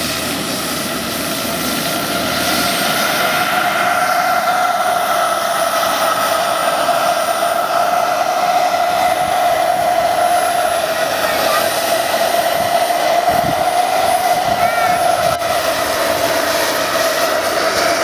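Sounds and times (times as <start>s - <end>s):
model helicopter turbine whine: 0.0s - 18.0s.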